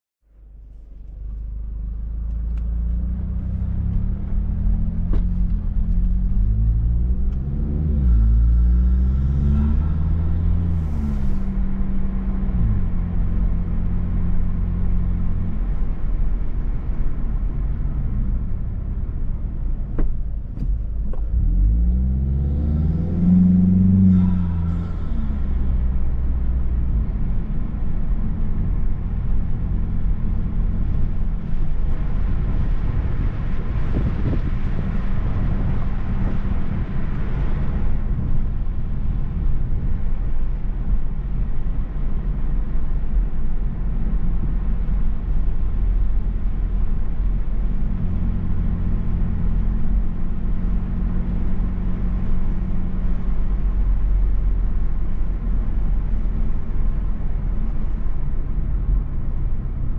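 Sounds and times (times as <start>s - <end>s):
car engine and road rumble: 0.2s - 59.9s.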